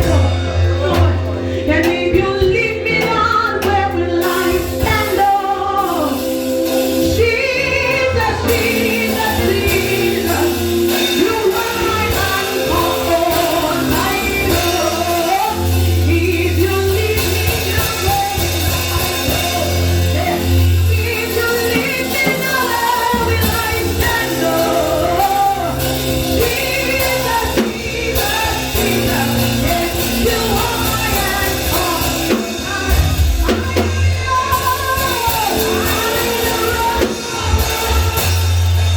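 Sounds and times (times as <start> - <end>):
instrumental accompaniment: 0.0 - 38.9
steady bass line: 0.0 - 38.9
worship singing: 0.0 - 38.9.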